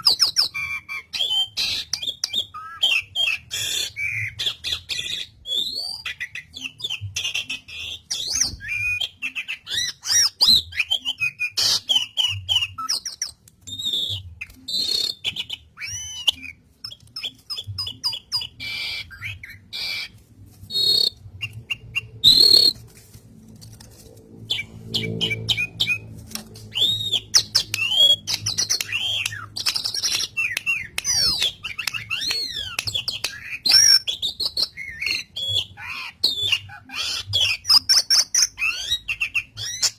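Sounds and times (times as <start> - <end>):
starling singing: 0.0 - 22.8, 24.4 - 39.9.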